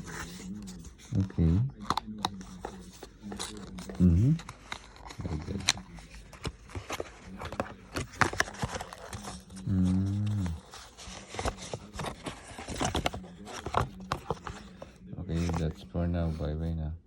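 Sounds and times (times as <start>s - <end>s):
packaging clicks and crinkles: 1.8s - 15.8s.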